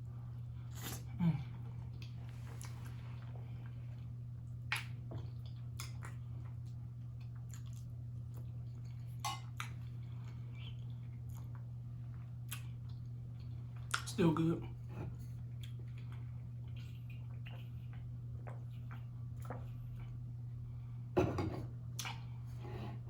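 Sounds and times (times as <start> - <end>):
man chewing food: 0.0 - 14.1, 14.8 - 20.6, 21.8 - 23.0
steady low hum: 0.0 - 23.0.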